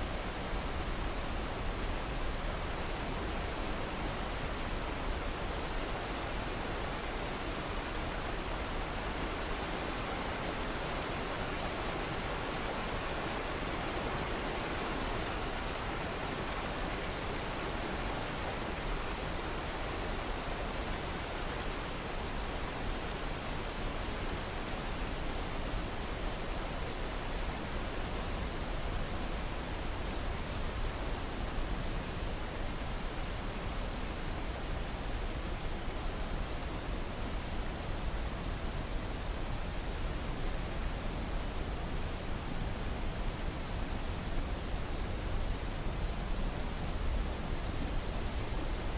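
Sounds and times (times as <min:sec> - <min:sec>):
river water rushing over boulders: 0:00.0 - 0:48.9.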